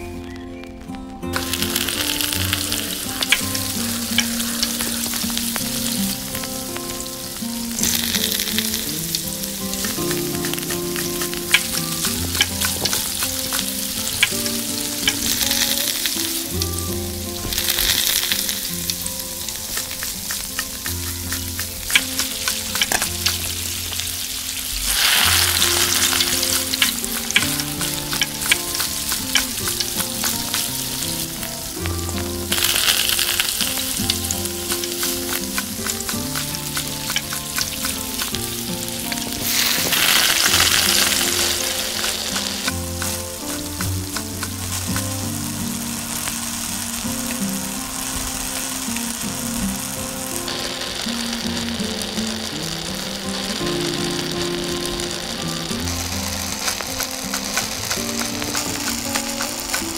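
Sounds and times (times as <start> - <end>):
hot oil sizzling and spitting: 1.2 - 59.9.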